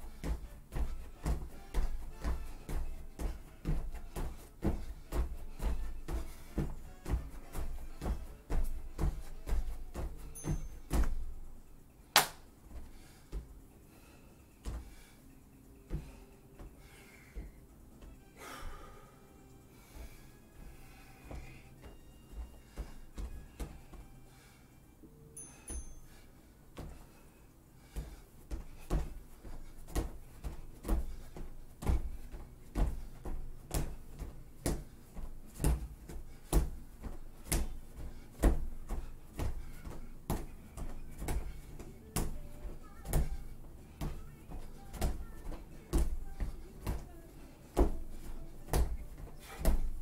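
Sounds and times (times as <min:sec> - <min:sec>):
footfalls hopping on gym mats: 0:00.0 - 0:13.7, 0:14.6 - 0:19.0, 0:19.8 - 0:24.2, 0:25.6 - 0:27.2, 0:27.8 - 0:50.0.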